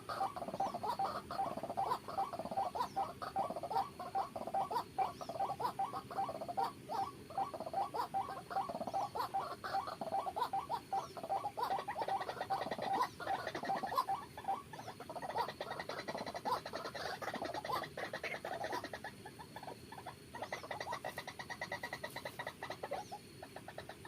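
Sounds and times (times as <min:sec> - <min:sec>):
waterhen calling: 0:00.0 - 0:24.0.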